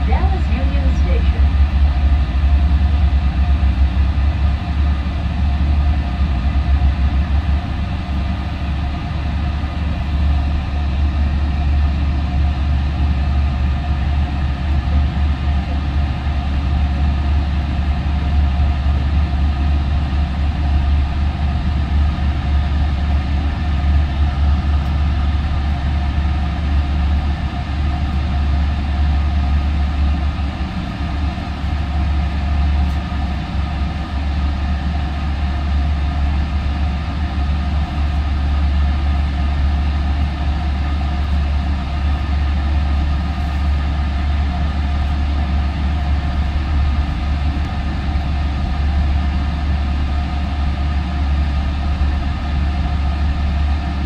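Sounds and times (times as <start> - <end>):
steady humming tones: 0.0 - 54.0
train low drone from inside: 0.0 - 54.0.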